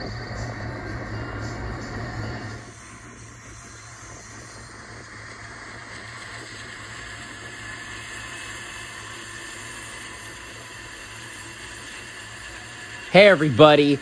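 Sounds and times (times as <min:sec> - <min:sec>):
low locomotive engine hum: 0:00.0 - 0:14.0
wheels hissing on rails: 0:00.0 - 0:14.0.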